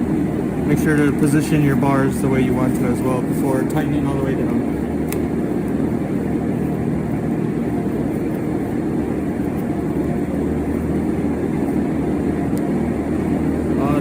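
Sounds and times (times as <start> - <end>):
low rumbling hum: 0.0 - 14.0.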